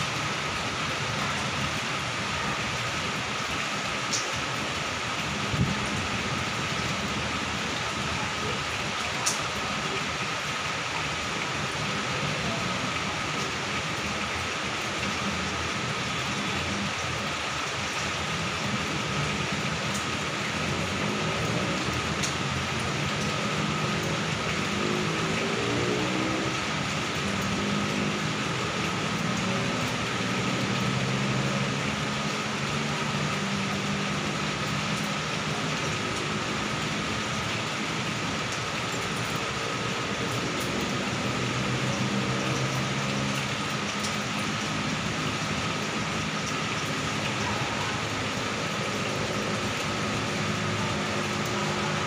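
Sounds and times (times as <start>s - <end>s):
city traffic hum: 0.0s - 52.0s
heavy rain hissing: 0.0s - 52.0s.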